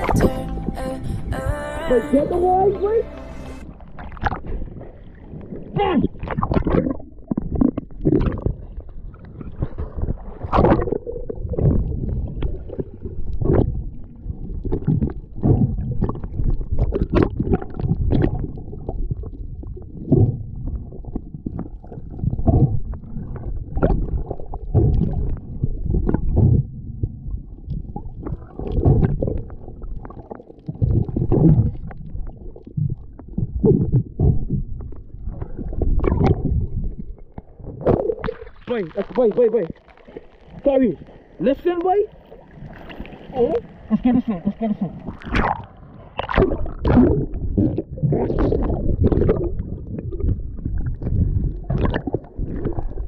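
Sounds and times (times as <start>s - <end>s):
muffled underwater rumbling: 0.0s - 53.0s.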